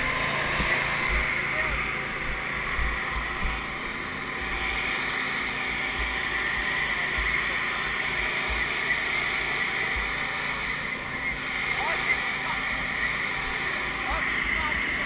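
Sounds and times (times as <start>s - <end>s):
engines droning: 0.0s - 15.0s.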